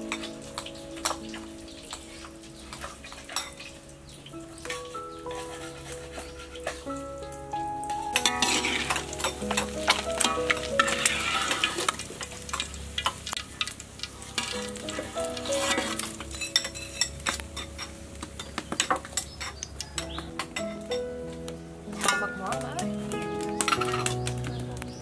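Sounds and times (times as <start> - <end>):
oil sizzling in a wok: 0.0 - 25.0.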